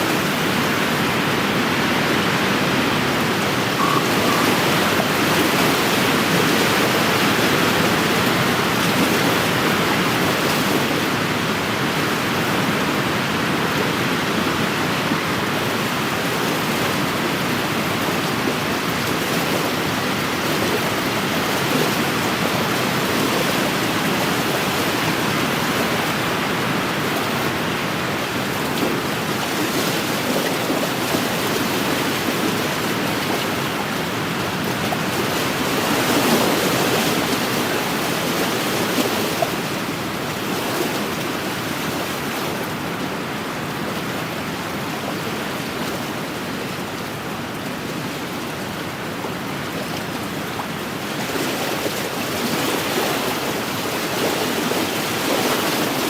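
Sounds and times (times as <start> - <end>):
waves washing against shore: 0.0 - 56.0.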